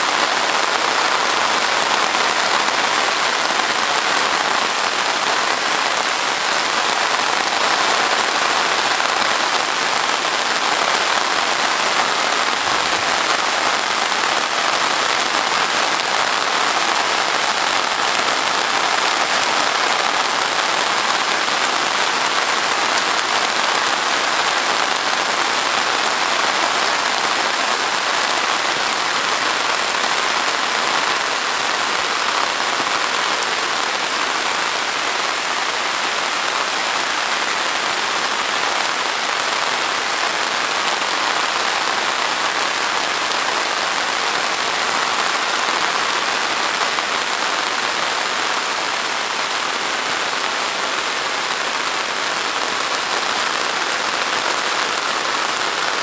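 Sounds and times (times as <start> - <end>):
heavy rain on trees and grass: 0.0 - 56.0.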